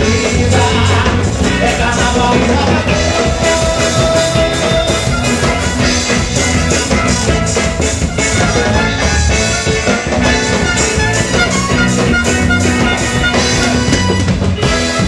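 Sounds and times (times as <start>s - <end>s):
loud music with drums: 0.0s - 15.0s.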